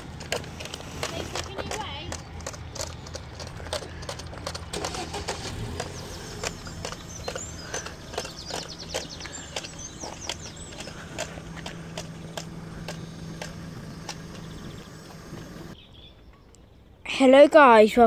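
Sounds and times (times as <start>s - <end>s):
train wheel clicks: 0.0s - 15.5s
diesel train engine drone: 0.0s - 16.0s.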